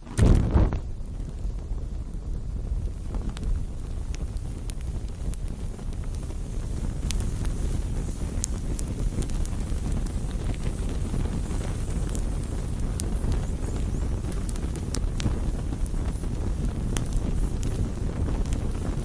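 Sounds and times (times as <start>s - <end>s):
burning wood crackling and popping: 0.0s - 19.0s
low rumble of flames: 0.0s - 19.0s
wind: 0.0s - 19.0s.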